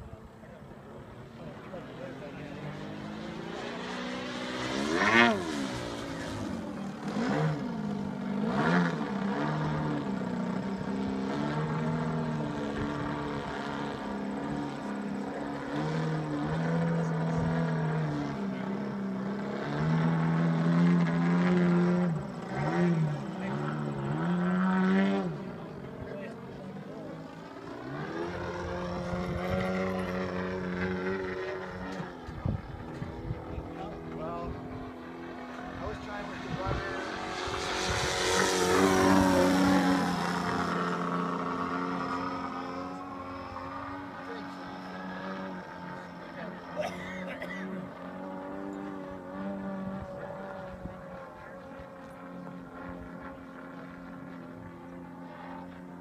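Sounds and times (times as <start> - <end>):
model airplane motor buzzing: 3.3 - 56.0.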